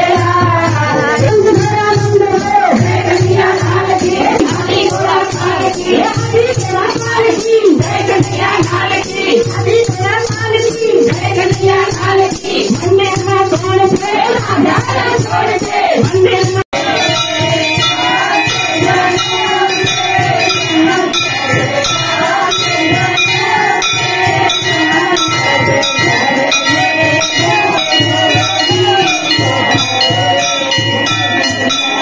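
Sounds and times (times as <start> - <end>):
bells jingling: 0.0 - 32.0
rhythmic beat: 0.0 - 32.0
women singing devotional song: 0.0 - 32.0.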